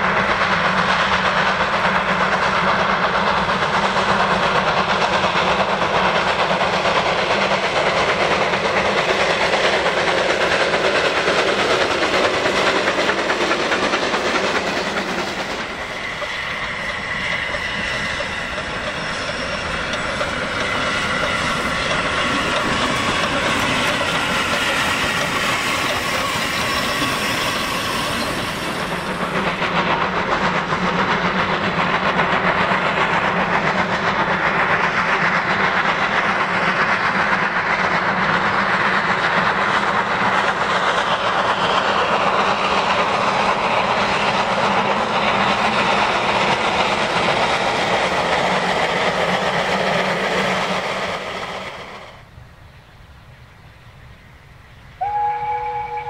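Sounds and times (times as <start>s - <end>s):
wagon wheels rumbling on rails: 0.0s - 52.2s
steam locomotive exhaust: 0.0s - 56.0s.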